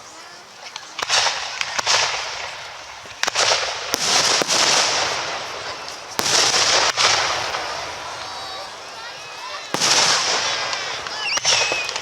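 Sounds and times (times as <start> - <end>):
fireworks shells bursting: 0.8 - 12.0
high hissing crackle: 1.0 - 12.0.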